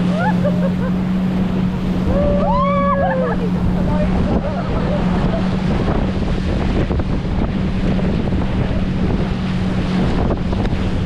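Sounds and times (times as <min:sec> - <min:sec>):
motorboat engine drone: 0:00.0 - 0:11.0
rushing water: 0:00.0 - 0:11.0
wind buffeting microphone: 0:00.0 - 0:11.0.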